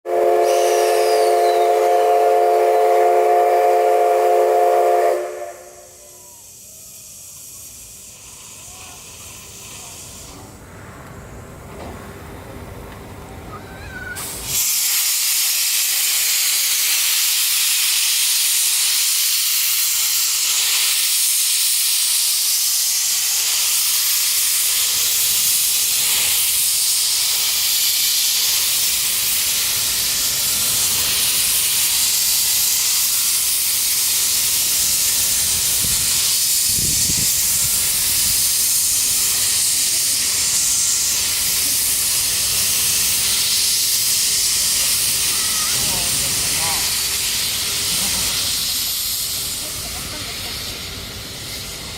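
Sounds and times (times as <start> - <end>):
steam locomotive hissing steam: 0.0 - 51.9.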